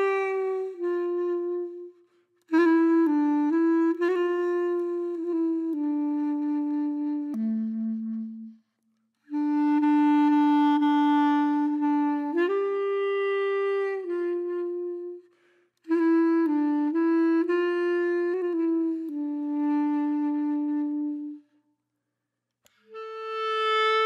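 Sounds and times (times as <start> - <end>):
slow wind instrument melody: 0.0 - 21.6, 22.6 - 24.0.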